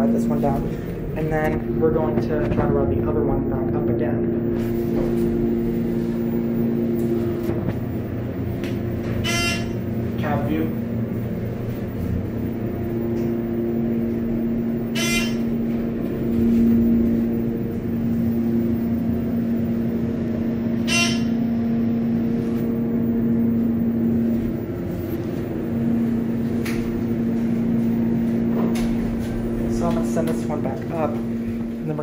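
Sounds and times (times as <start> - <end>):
elevator ventilation fan hum: 0.0 - 32.0.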